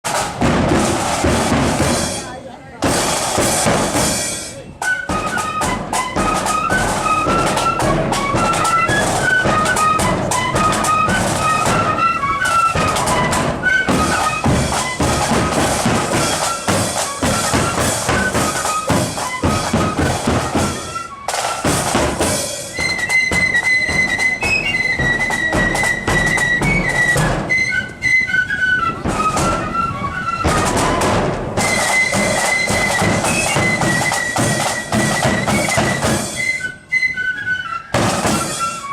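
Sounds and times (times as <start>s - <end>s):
bass and snare drums: 0.0s - 27.8s, 29.0s - 36.9s, 37.9s - 38.9s
flutes playing high melody: 3.0s - 38.9s.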